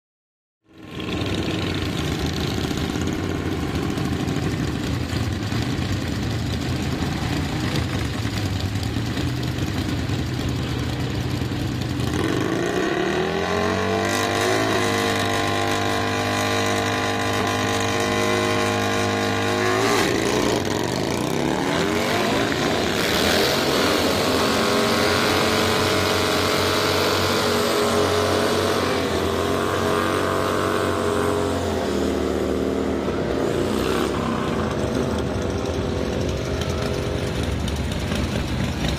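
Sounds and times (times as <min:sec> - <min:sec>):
motorcycle engine revving: 0:00.6 - 0:38.9.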